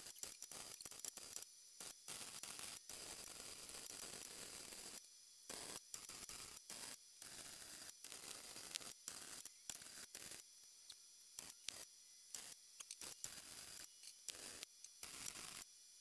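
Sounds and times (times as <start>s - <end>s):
welding arc crackling hiss: 0.0s - 10.4s, 11.4s - 15.6s.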